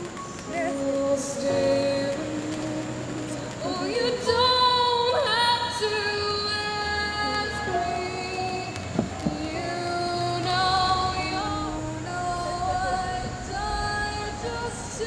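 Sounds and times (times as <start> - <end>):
music: 0.0 - 15.0
woman singing long held notes: 0.0 - 15.0.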